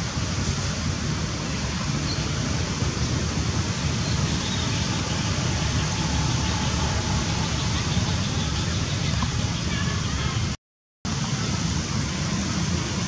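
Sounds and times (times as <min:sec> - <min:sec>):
unsteady low rumble: 0:00.0 - 0:10.6
rushing outdoor noise: 0:00.0 - 0:13.0.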